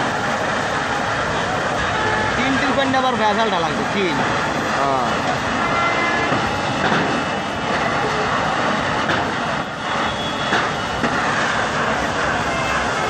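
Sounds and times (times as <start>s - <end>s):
fire engine pumps running: 0.0s - 13.0s
fire hose jets spraying water: 0.0s - 13.0s.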